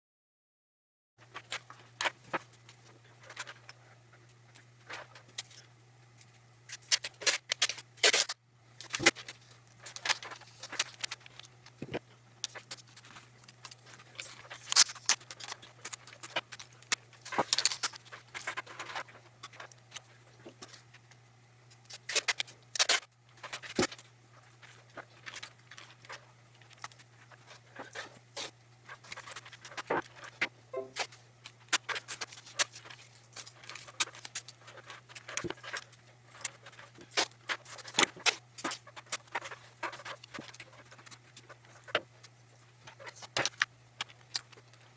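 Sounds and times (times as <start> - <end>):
steady low hum: 1.2 - 44.9
plastic keyboard clicks and scrapes: 6.7 - 20.8, 21.8 - 44.9.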